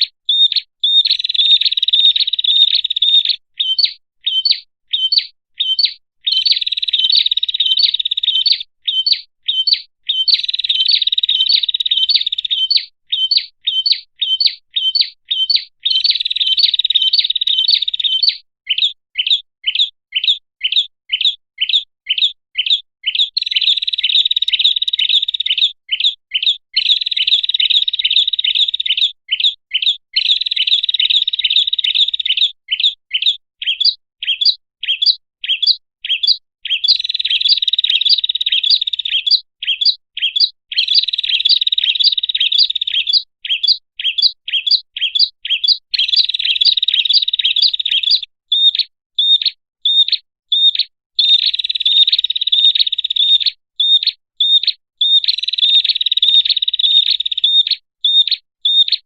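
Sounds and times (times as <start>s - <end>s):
bird chirping and trilling: 0.0s - 59.0s.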